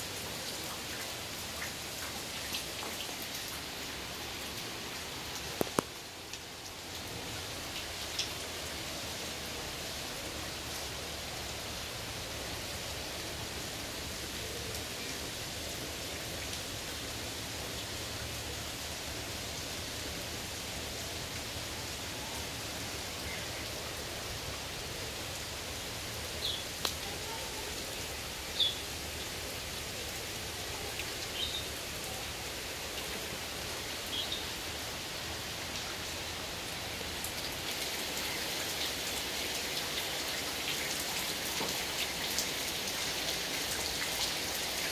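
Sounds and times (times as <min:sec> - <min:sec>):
heavy rain on ground: 0:00.0 - 0:44.9.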